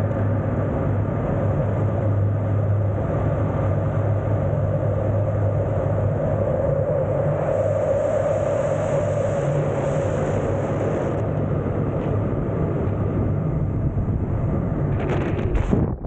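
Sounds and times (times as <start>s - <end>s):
low rumble: 0.0s - 16.0s
wind rushing over microphone: 0.0s - 16.0s.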